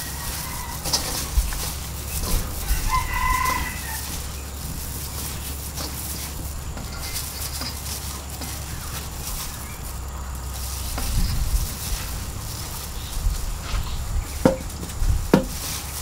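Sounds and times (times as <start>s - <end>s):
gloved hands rustling and tapping: 0.0s - 16.0s
steady low hum: 0.0s - 16.0s.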